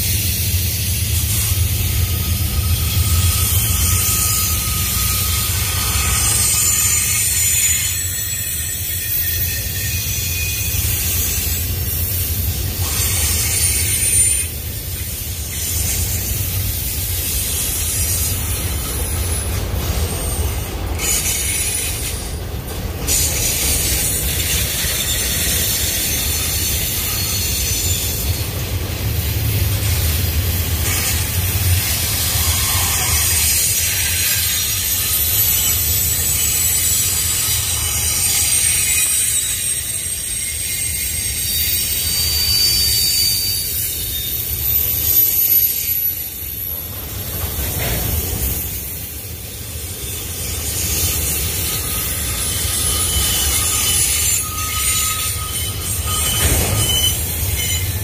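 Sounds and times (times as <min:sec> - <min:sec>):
train wheels rumbling on rail: 0:00.0 - 0:58.0
high-pitched wheel squeal: 0:01.3 - 0:22.4, 0:23.1 - 0:28.6, 0:30.8 - 0:47.0, 0:47.8 - 0:58.0.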